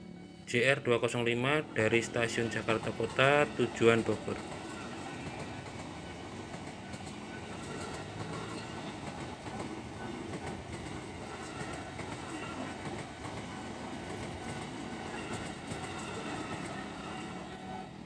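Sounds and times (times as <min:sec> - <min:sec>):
train wheels rumbling on rails: 0:01.6 - 0:18.0.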